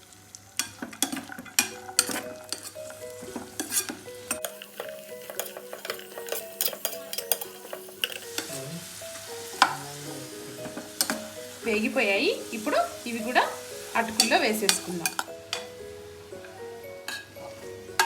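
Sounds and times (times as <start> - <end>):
nuts sizzling in oil: 0.0 - 18.0
spoon scraping a pan: 0.6 - 11.6, 12.4 - 15.8, 16.4 - 18.0.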